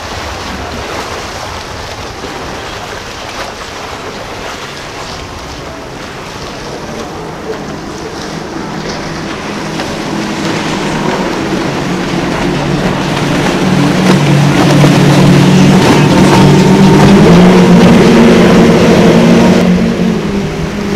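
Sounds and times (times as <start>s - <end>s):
boat wake and spray hissing: 0.0s - 20.9s
outboard engines running: 0.0s - 20.9s.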